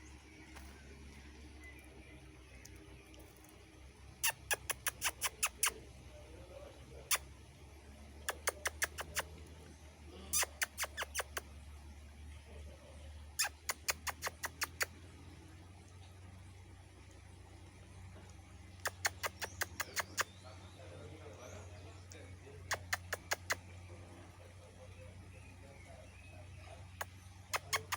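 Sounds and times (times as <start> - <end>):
marmosets chirping: 0.0 - 11.6, 13.3 - 15.4, 17.1 - 27.9.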